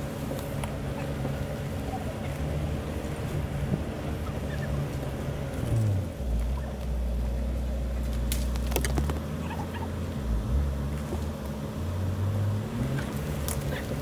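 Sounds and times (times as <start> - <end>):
pickup truck engine at low revs: 0.0 - 14.0.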